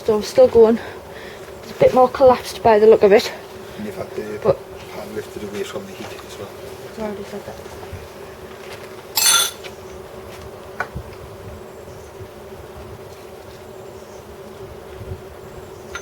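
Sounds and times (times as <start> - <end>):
steady buzzing hum: 0.0 - 16.0.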